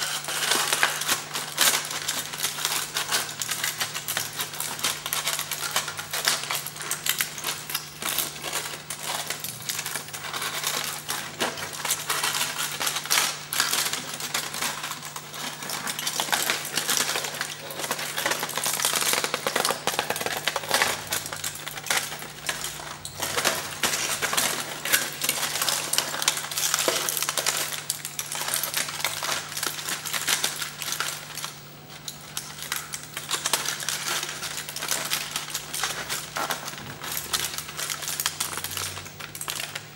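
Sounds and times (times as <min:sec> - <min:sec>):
aluminium foil crinkling: 0:00.0 - 0:39.9.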